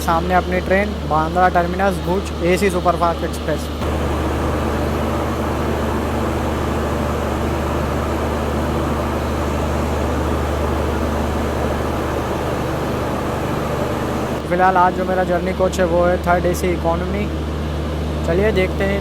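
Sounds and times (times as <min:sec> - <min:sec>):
train air conditioning hum: 0:00.0 - 0:19.0.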